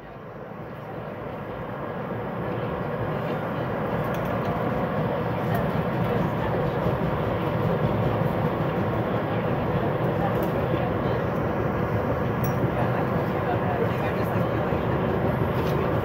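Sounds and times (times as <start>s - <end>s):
train rumble from inside car: 0.0s - 16.0s.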